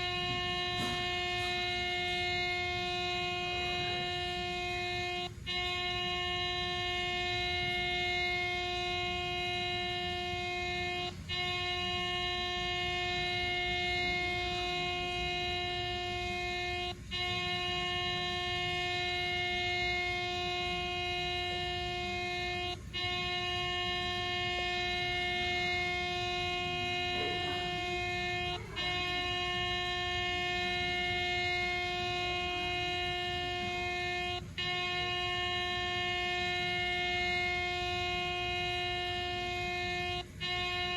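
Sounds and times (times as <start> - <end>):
air horn blowing: 0.0 - 40.9.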